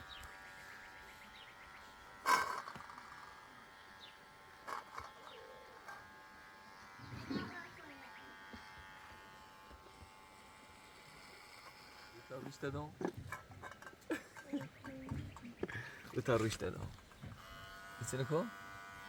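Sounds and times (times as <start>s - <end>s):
high buzzing hum: 0.0s - 19.0s.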